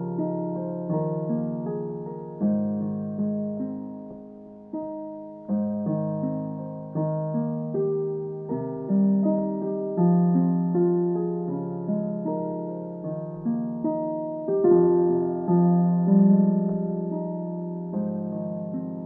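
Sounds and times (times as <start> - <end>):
gentle piano chords: 0.0 - 19.0.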